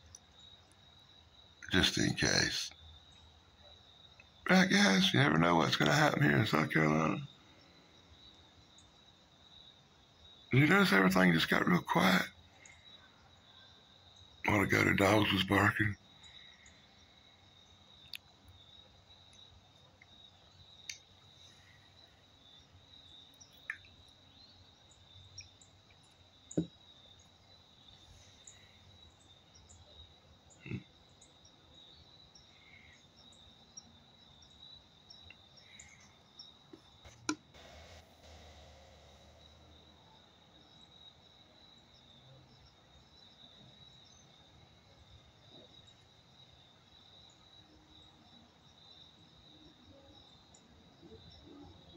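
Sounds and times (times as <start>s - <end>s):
cricket chorus trilling: 0.0s - 51.9s.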